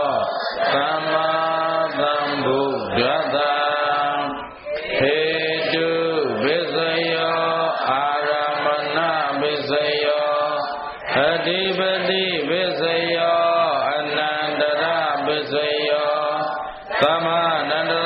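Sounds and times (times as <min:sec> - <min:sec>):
monk chanting: 0:00.0 - 0:18.0.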